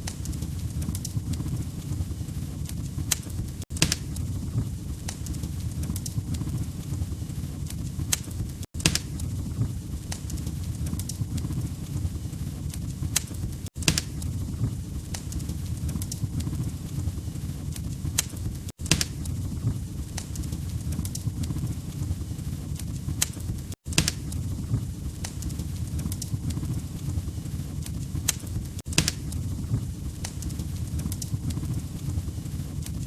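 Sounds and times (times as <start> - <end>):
sharp pops and snaps of fire: 0.0 - 33.0
wood fire crackling: 0.0 - 33.0.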